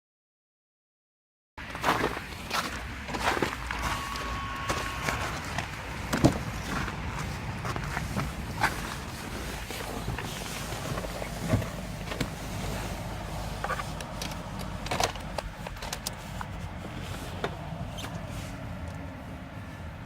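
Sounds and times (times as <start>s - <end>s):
diesel engine idling: 1.7s - 20.0s.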